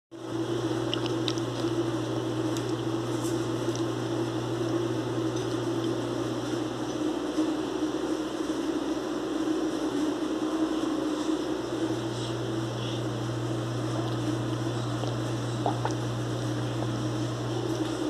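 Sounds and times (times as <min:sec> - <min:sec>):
mechanical hum: 0:00.1 - 0:18.0.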